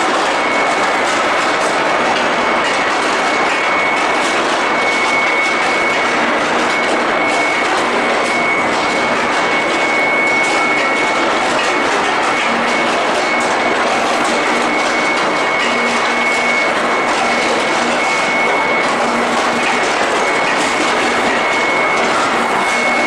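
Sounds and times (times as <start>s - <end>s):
high machine whine: 0.0s - 23.0s.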